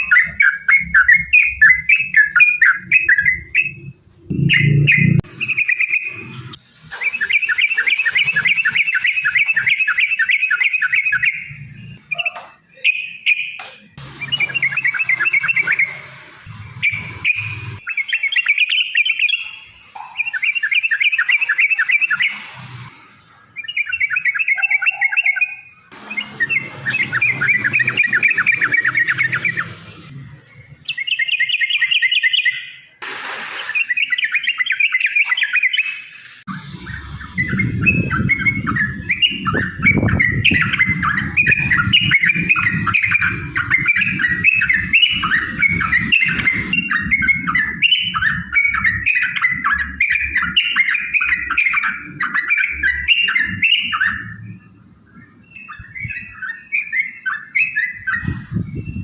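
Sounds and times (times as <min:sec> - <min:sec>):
bird chattering song: 0:00.0 - 0:22.6, 0:23.3 - 0:33.0, 0:33.6 - 0:59.0.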